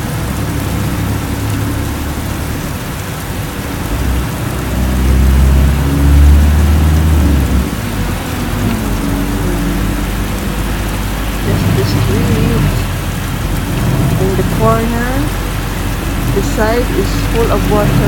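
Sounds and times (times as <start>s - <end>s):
deep low rumble: 0.0s - 18.0s
heavy rain on vehicle: 0.0s - 18.0s.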